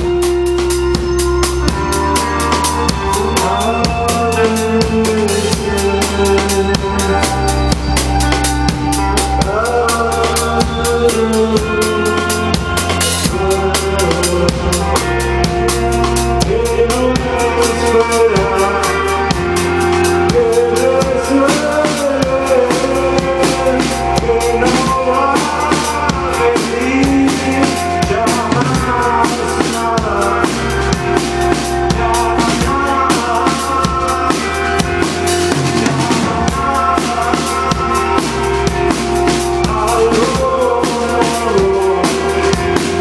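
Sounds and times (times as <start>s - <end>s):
drum kit fast beat: 0.0s - 43.0s
gliding melody line: 0.0s - 43.0s
live rock band playing: 0.0s - 43.0s.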